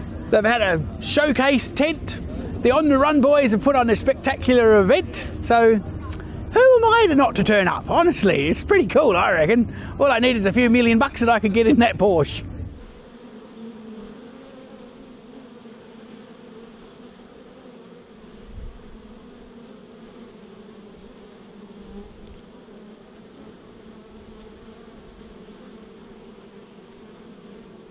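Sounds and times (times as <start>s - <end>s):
bees buzzing: 0.0s - 27.9s.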